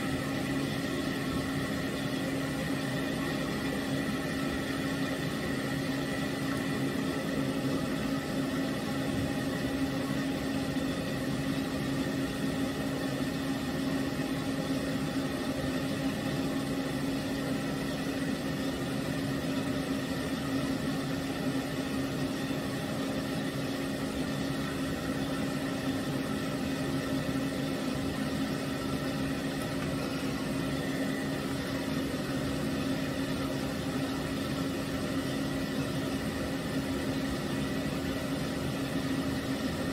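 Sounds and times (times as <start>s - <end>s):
pet dryer motor humming: 0.0s - 39.9s.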